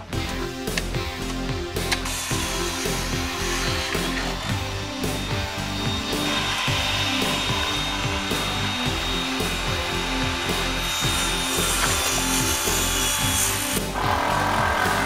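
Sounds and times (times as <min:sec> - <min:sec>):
background music with low notes: 0:00.0 - 0:15.0.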